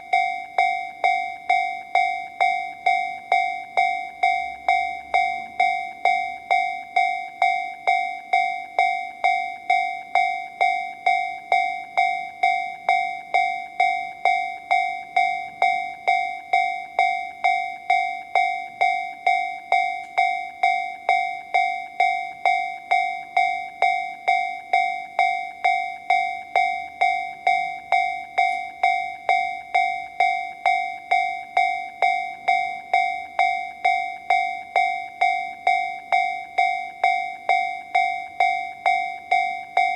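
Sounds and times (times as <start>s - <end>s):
electronic crossing bell dinging: 0.0s - 39.9s.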